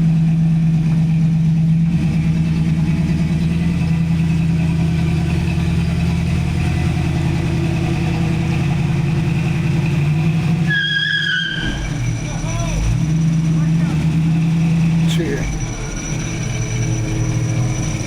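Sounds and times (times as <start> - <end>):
supercharged engine idling: 0.0 - 10.5, 11.9 - 18.0.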